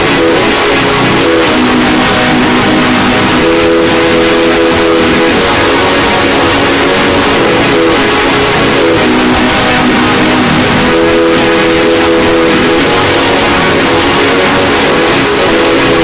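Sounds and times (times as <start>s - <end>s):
buzzing tones shifting pitch: 0.0s - 16.0s
distorted electronic noise: 0.0s - 16.0s.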